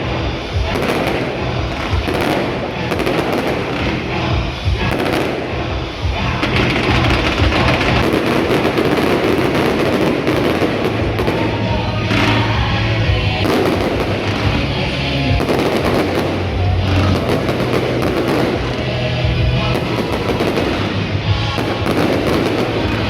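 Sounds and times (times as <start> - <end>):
fireworks bursting and crackling: 0.0 - 23.0
music with low bass: 0.0 - 23.0.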